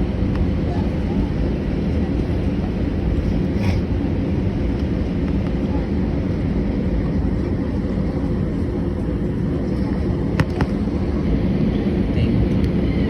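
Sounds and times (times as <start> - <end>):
airplane taxiing rumble: 0.0 - 13.0.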